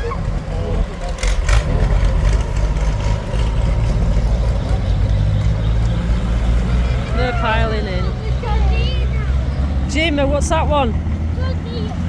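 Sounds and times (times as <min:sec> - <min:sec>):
tractor engines rumbling: 0:00.0 - 0:12.0.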